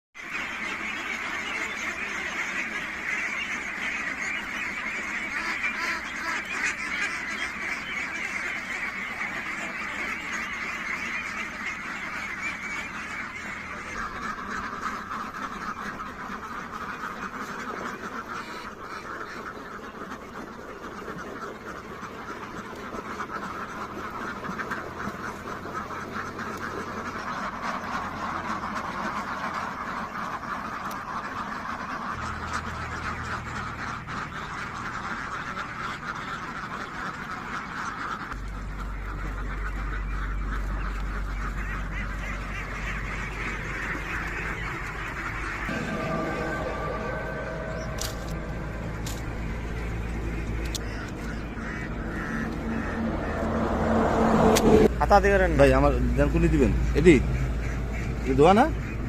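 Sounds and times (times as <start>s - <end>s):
ducks quacking: 0.2s - 59.0s.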